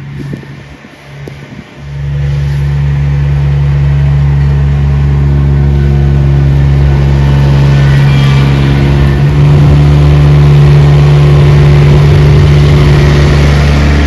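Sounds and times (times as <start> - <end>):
large engine humming: 0.0 - 14.0.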